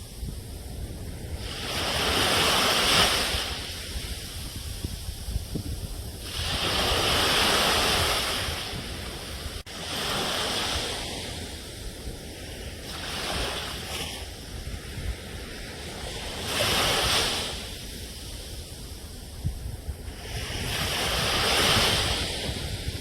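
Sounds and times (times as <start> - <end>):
ocean waves hissing ashore: 0.0 - 23.0.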